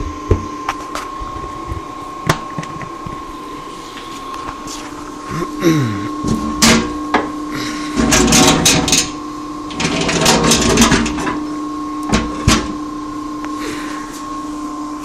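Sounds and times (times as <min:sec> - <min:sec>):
industrial vacuum whining: 0:00.0 - 0:15.0.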